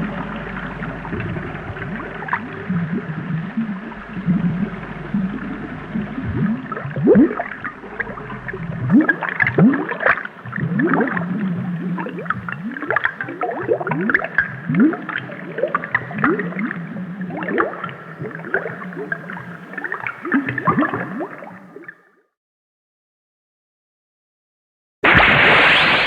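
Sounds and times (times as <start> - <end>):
cartoon bubbles gurgling: 0.0 - 21.8
low underwater rumble: 0.0 - 21.8.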